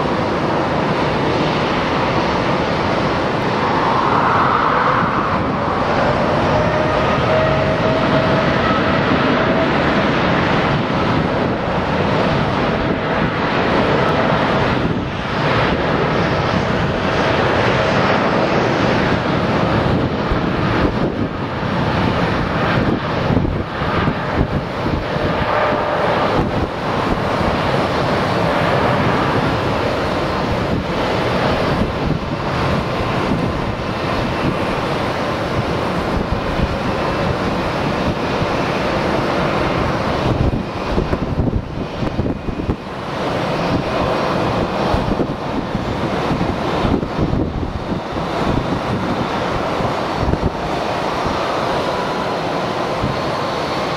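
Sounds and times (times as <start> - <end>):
jet engines at takeoff power: 0.0 - 53.9.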